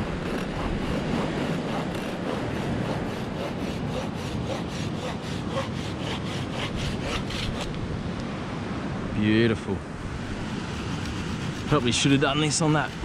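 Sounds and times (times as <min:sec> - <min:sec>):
saw cutting dry wood: 0:00.0 - 0:07.8, 0:10.2 - 0:13.0.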